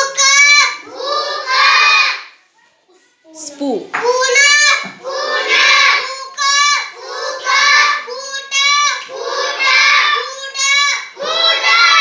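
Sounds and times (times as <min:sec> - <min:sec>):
girl reading words aloud: 0:00.0 - 0:12.0.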